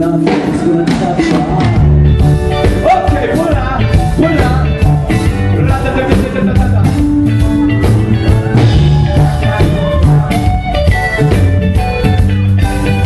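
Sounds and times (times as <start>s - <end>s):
live rock band playing: 0.0s - 13.0s
steady drum beat: 0.0s - 13.0s.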